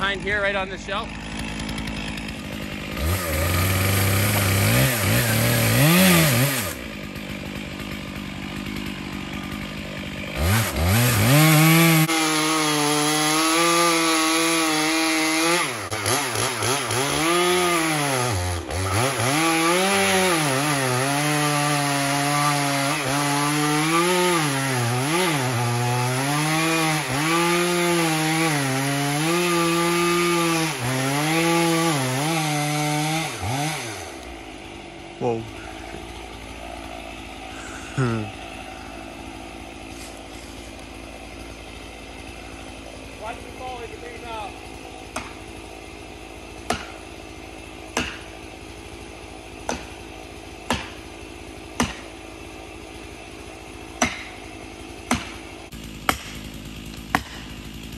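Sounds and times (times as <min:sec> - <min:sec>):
chainsaw cutting through trunk: 0:00.0 - 0:57.9.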